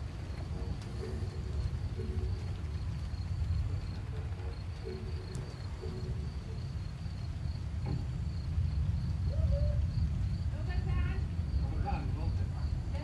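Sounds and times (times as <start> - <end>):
crickets chirping: 0.0 - 13.0
steady low rumble: 0.0 - 13.0.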